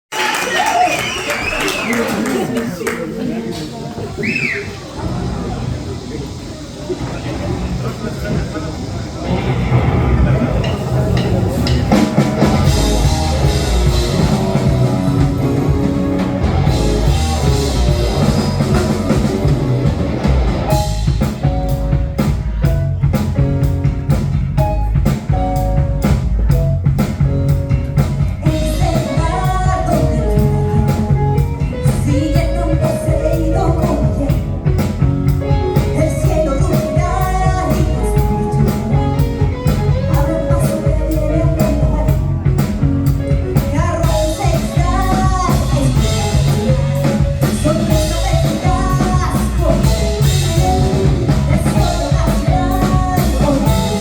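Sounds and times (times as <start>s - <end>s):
rock funk band playing: 9.2s - 54.0s
gliding lead melody: 9.3s - 54.0s.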